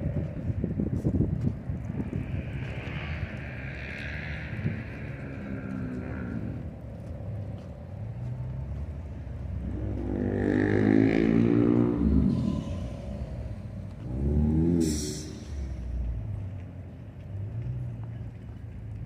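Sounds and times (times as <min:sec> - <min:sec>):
car engine driving past: 0:02.0 - 0:18.4.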